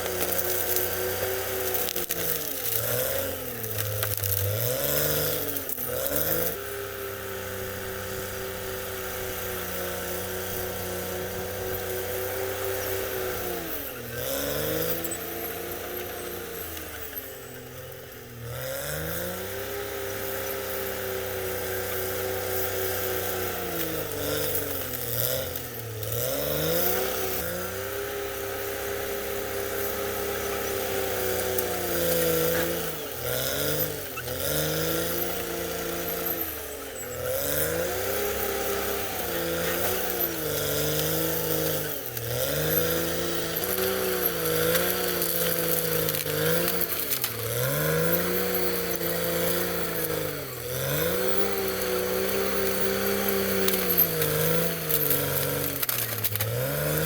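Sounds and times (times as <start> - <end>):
bulldozer diesel engine working hard: 0.0 - 57.0.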